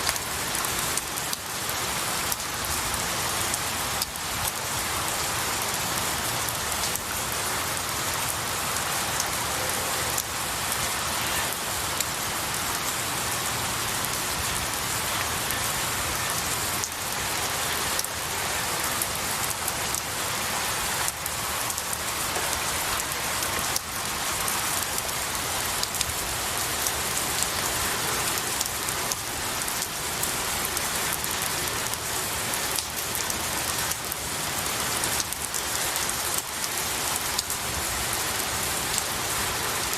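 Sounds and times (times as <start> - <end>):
rain falling on pine branches: 0.0 - 39.9.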